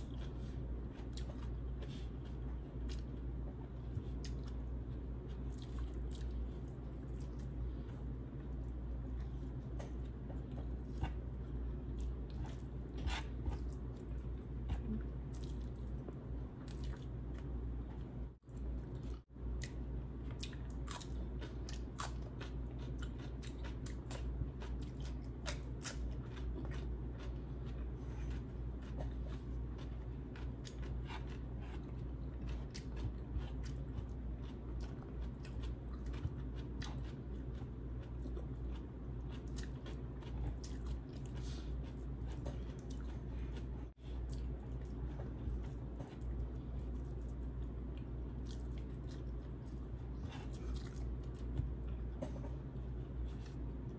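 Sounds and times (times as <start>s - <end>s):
chewing and crunching: 0.0s - 53.9s
low background hum: 0.0s - 53.9s.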